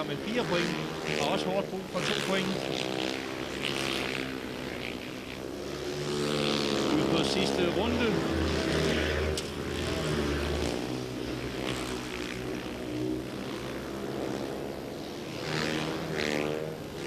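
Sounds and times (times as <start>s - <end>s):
motorcycle engines racing: 0.0s - 17.0s.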